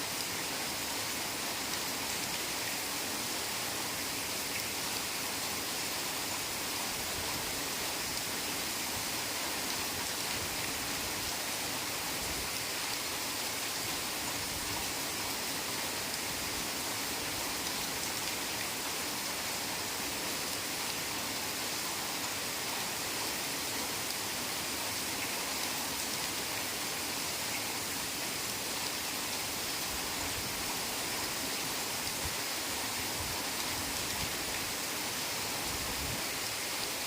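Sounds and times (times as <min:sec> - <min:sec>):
heavy rain in a forest: 0:00.0 - 0:37.0.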